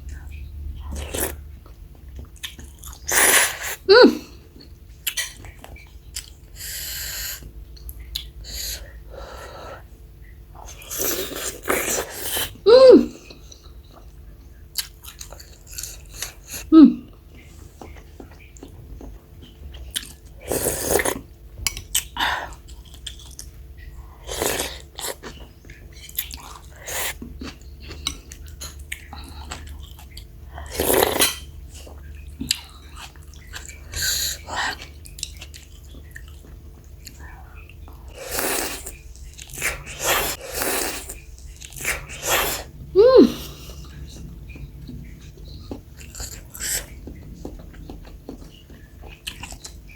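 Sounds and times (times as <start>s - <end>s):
person chewing: 0.0s - 8.9s, 13.2s - 49.9s.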